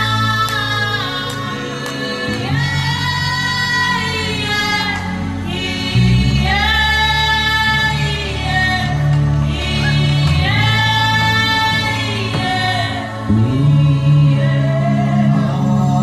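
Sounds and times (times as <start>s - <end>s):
low sustained backing chords: 0.0s - 16.0s.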